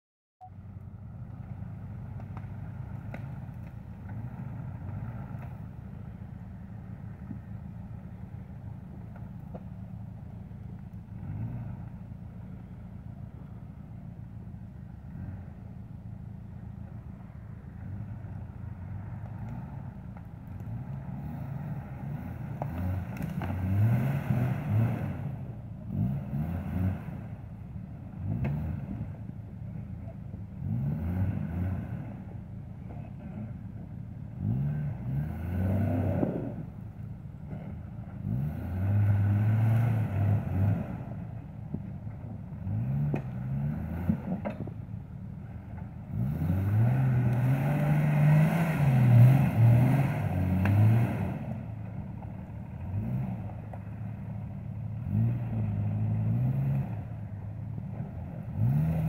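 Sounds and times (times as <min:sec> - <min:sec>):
engine revving in mud: 0:01.2 - 0:59.0.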